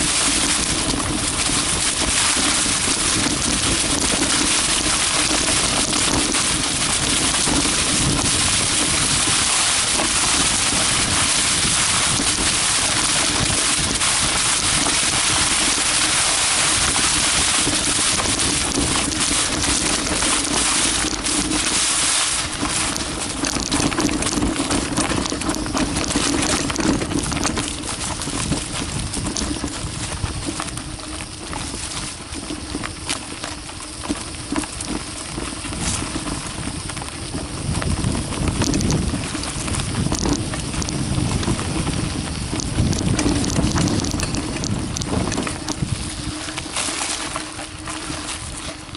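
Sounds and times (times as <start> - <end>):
bike clicks and rattles: 0.0 - 48.9
tyre noise and wind rush: 0.0 - 48.9.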